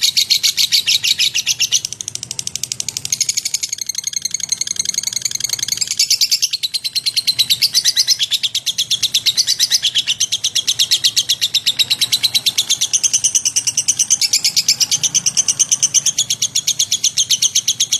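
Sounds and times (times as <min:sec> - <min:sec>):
lovebird chattering: 0:00.0 - 0:17.9.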